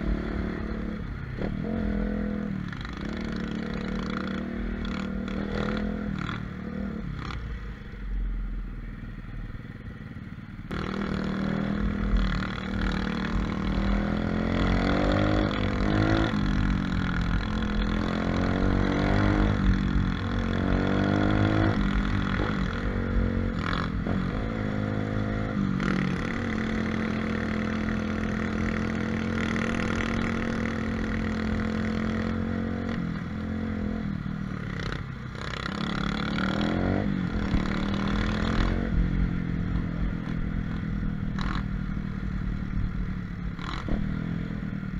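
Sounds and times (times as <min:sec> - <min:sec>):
motorbike engine revving: 0:00.0 - 0:07.5, 0:10.7 - 0:42.3, 0:43.5 - 0:44.7.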